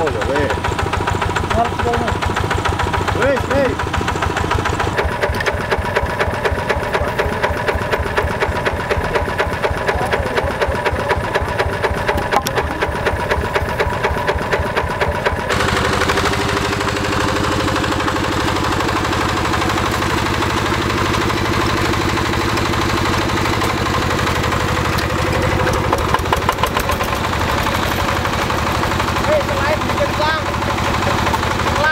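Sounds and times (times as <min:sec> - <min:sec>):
diesel engine knocking: 0:00.0 - 0:31.9.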